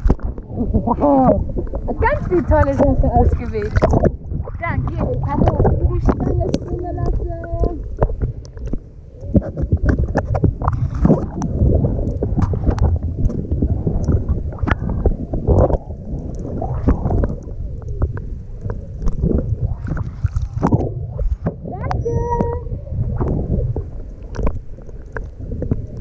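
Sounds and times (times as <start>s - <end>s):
sharp pops and clicks: 0.0s - 0.5s, 1.6s - 4.6s, 5.2s - 26.0s
underwater churning rumble: 0.0s - 26.0s
water sloshing and splashing: 0.0s - 26.0s.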